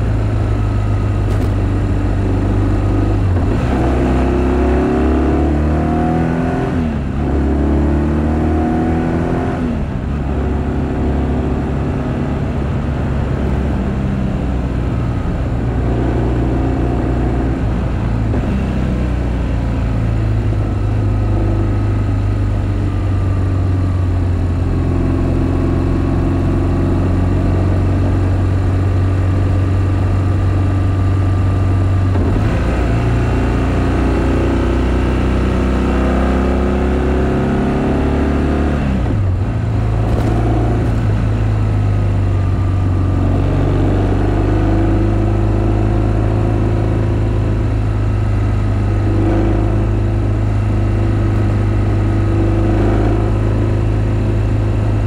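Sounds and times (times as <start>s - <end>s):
motorcycle engine running: 0.0s - 5.4s, 9.8s - 55.0s.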